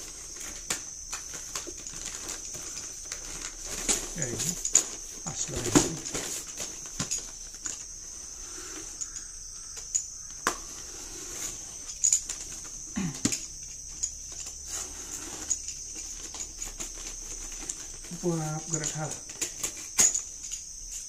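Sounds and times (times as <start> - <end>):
high-pitched hiss: 0.0 - 21.0.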